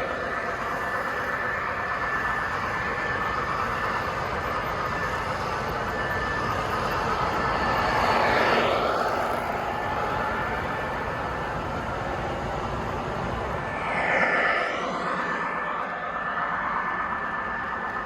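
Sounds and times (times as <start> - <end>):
faint whine of model train: 0.0 - 18.0.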